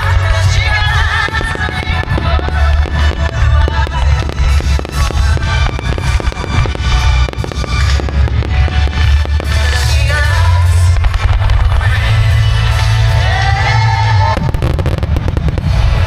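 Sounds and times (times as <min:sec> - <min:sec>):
bass-heavy music over loudspeakers: 0:00.0 - 0:16.0
fireworks bursting and crackling: 0:00.0 - 0:16.0.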